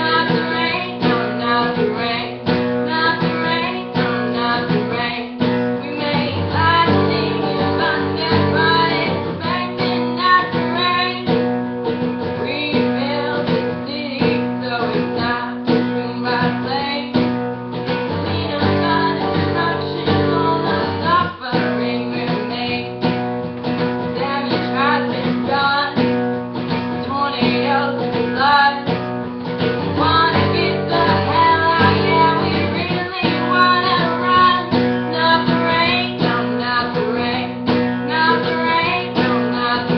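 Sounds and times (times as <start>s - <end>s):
acoustic guitar strumming: 0.0s - 39.9s
woman singing: 0.0s - 39.9s.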